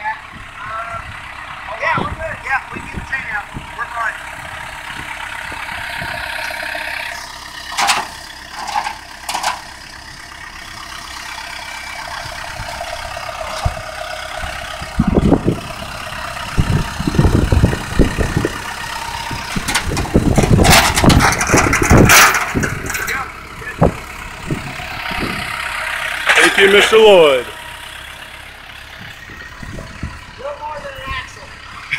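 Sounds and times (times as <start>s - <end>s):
loud low rumbles and bursts: 0.0s - 31.9s
vehicle engine idling: 0.0s - 31.9s.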